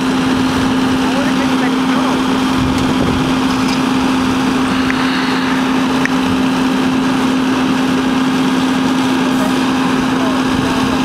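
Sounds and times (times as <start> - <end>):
fire engine idling: 0.0 - 11.0.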